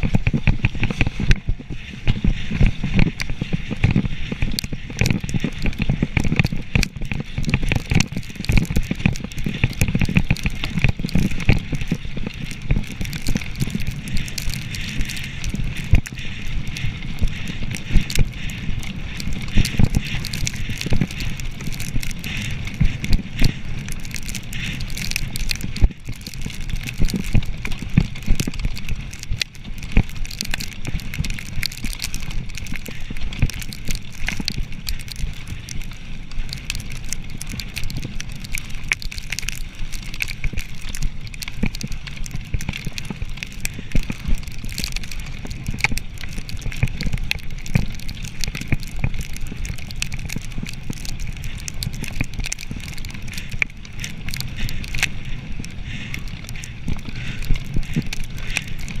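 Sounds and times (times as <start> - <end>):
bike rattling over dirt trail: 0.0 - 59.0.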